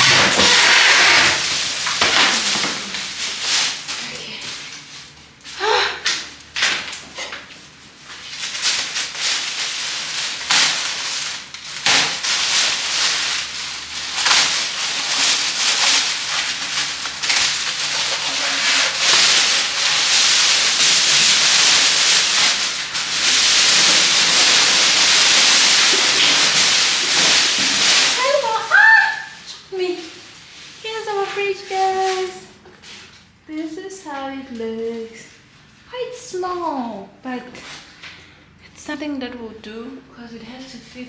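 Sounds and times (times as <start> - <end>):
plastic and cardboard rustling: 0.0 - 33.4.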